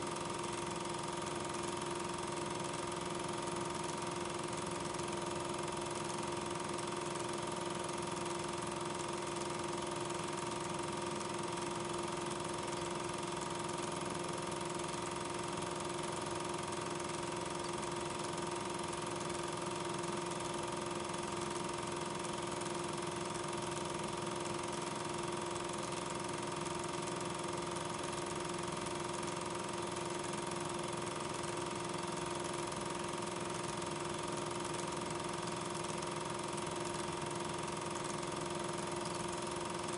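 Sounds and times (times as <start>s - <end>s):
film projector humming: 0.0s - 39.9s.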